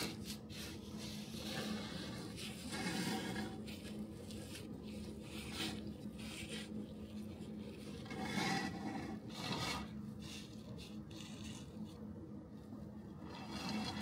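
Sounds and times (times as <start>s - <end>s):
rasping scraping strokes: 0.0s - 11.8s
faint steady hum: 0.0s - 14.0s.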